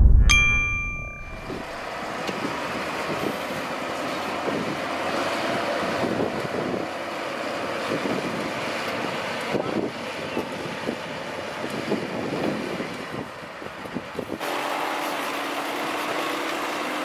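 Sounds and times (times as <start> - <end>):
heavy construction vehicles running: 0.6 - 17.0.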